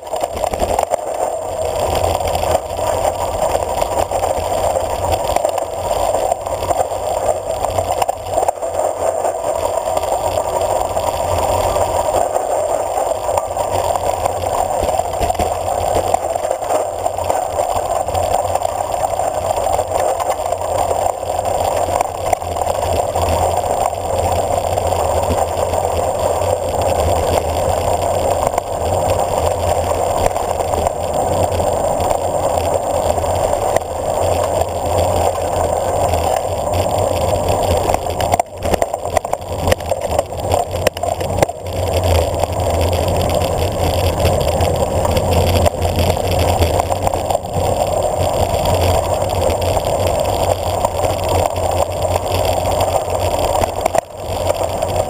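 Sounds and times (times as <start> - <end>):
tyres rumbling on gravel road: 0.0 - 55.0.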